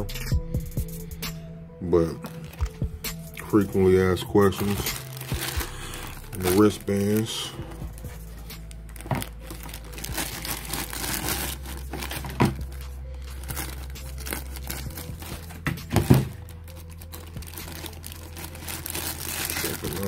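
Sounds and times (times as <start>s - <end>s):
plastic bag crinkling: 2.2s - 2.8s, 4.2s - 20.0s.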